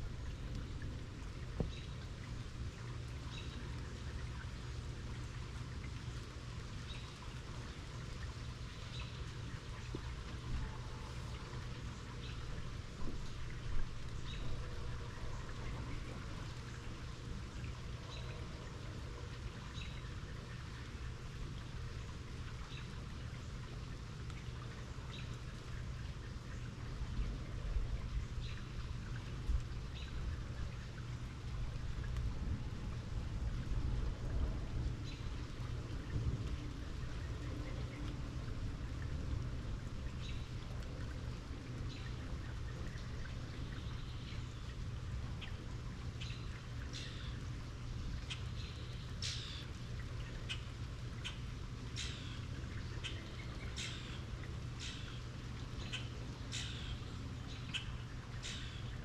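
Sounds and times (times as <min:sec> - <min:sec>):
steady rain falling: 0:00.0 - 0:59.0
water drips: 0:00.0 - 0:59.0.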